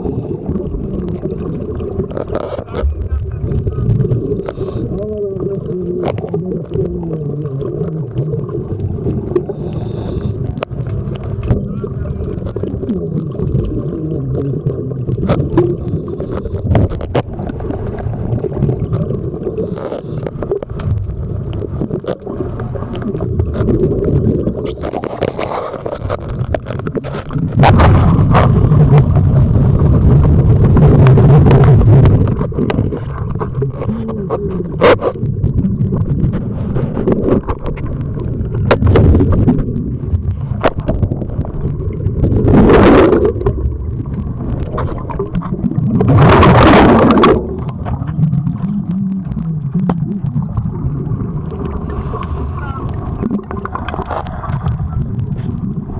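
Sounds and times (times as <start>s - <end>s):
exhaled bubbles underwater: 0.0s - 55.9s
low churning rumble: 0.0s - 55.9s.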